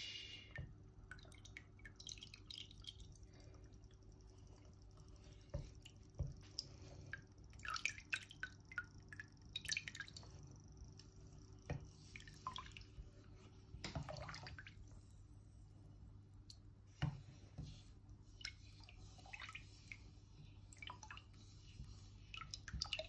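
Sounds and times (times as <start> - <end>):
low steady hum: 0.0 - 23.0
liquid slops and squelches: 1.1 - 15.4, 16.4 - 23.0.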